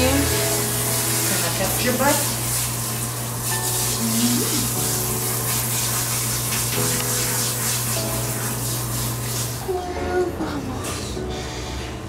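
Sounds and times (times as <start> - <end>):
shower sprayer spraying water: 0.0 - 10.0.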